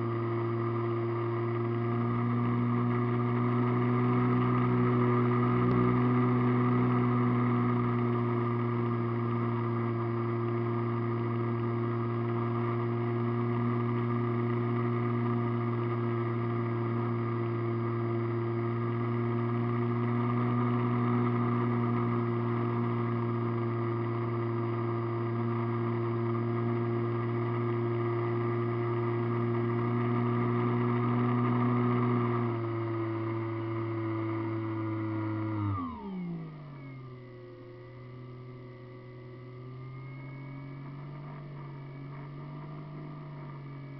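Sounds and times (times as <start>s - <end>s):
model airplane motor and propeller: 0.0s - 43.9s.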